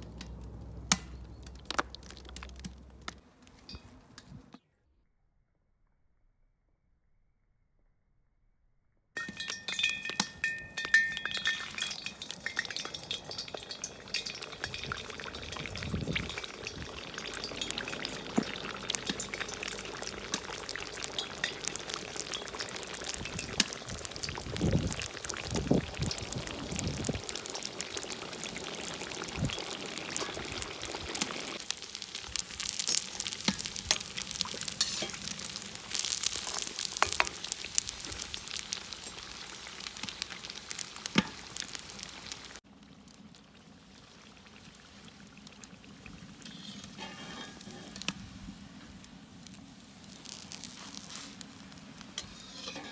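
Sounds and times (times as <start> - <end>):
hot oil sizzling: 9.2 - 52.9.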